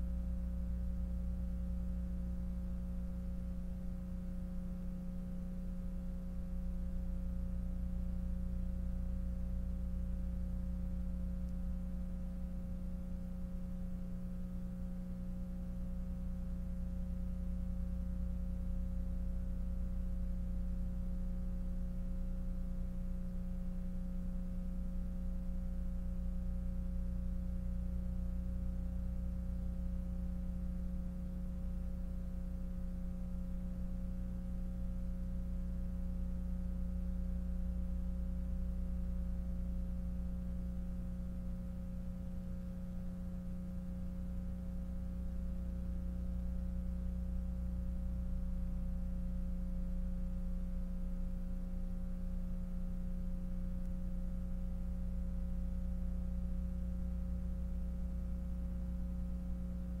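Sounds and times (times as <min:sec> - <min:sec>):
electrical hum: 0:00.0 - 1:00.0.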